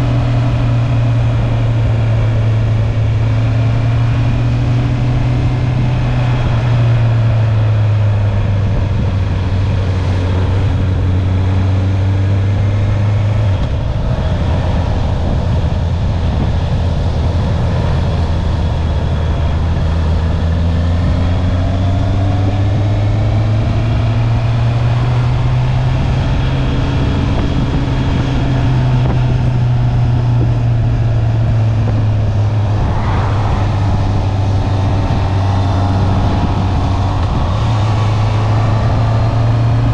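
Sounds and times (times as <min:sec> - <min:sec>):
motorcycle engine accelerating: 0:00.0 - 0:39.9
wind on microphone: 0:00.0 - 0:39.9.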